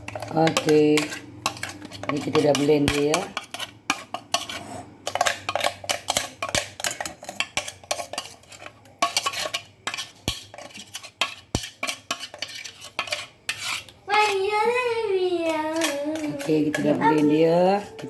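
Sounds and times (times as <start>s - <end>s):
utensils clinking against container: 0.0s - 14.4s, 15.4s - 18.0s.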